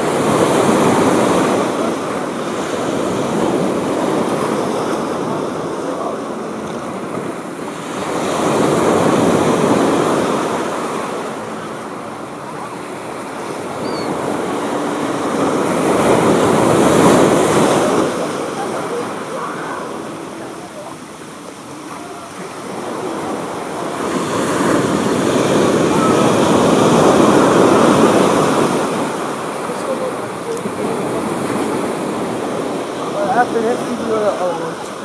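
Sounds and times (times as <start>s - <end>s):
ocean surf breaking on shore: 0.0s - 35.0s.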